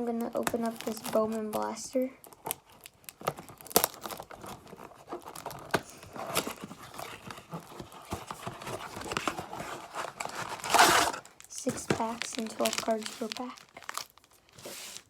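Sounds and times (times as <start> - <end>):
wrapping crinkling and tearing: 0.1 - 15.0.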